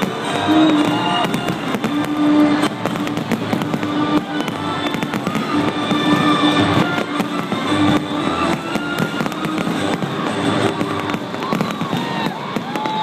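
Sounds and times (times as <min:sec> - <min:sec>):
fireworks bangs and crackles: 0:00.0 - 0:13.0
music over loudspeakers: 0:00.0 - 0:13.0.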